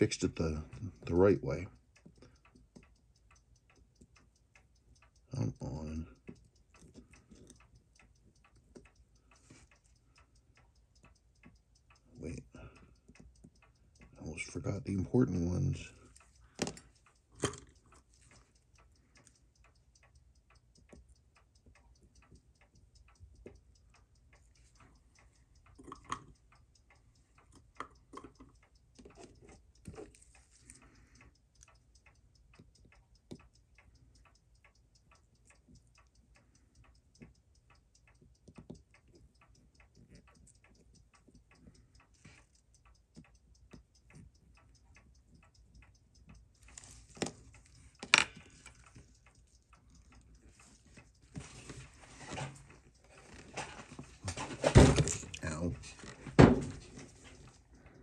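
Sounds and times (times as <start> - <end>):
mechanical watch ticking: 0.0 - 58.0.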